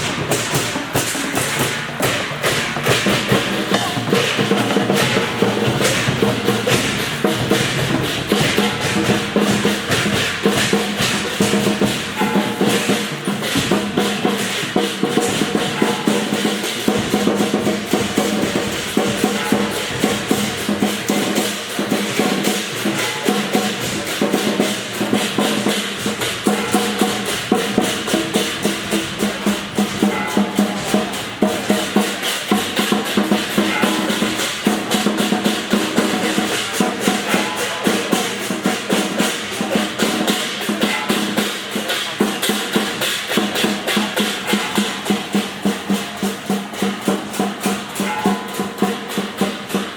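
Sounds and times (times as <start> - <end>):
drums and percussion beating rapidly: 0.0 - 49.9.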